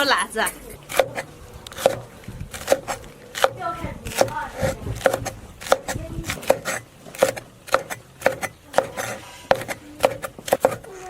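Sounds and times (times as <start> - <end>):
knife cutting on cutting board: 0.9 - 11.0.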